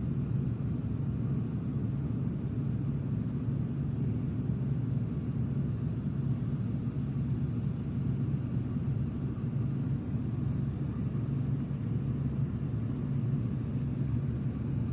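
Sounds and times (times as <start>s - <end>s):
ship engine rumble: 0.0s - 14.9s.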